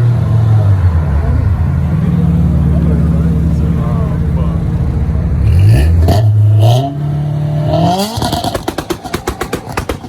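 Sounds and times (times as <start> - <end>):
car engine revving: 0.0 - 10.0
exhaust pops and crackles: 1.1 - 10.0.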